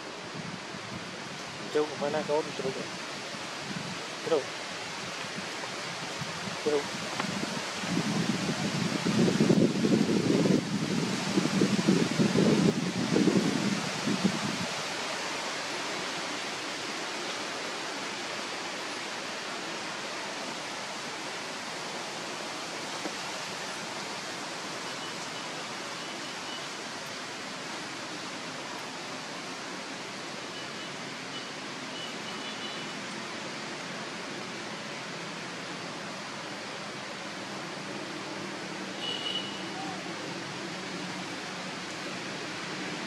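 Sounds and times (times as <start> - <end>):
steady outdoor hiss: 0.0 - 43.0.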